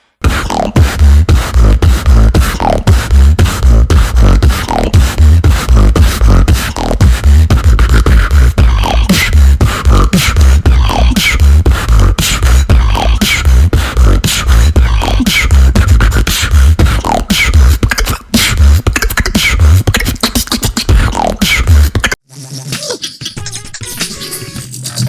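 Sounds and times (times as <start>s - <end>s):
woman beatboxing: 0.2s - 25.0s.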